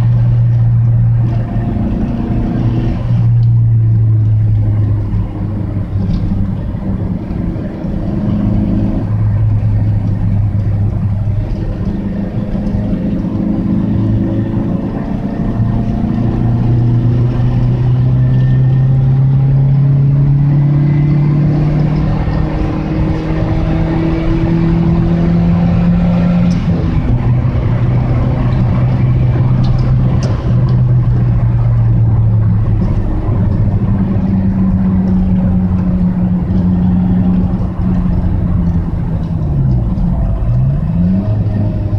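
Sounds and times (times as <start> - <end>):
car exhaust drone: 0.0 - 41.9.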